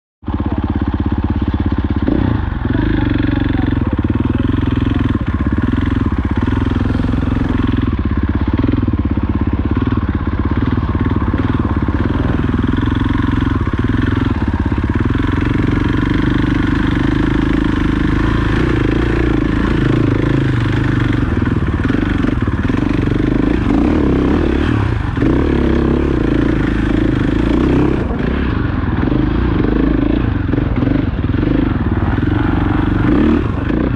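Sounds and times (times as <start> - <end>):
off-road motorcycle engine: 0.2 - 33.9.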